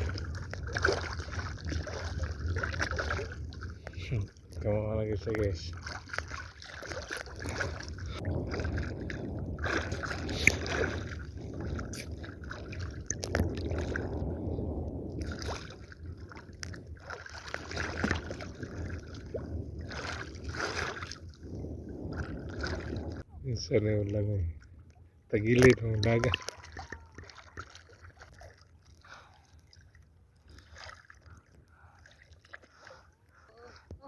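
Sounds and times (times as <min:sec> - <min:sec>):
seawater sloshing and splashing: 0:00.0 - 0:23.3, 0:24.5 - 0:34.0.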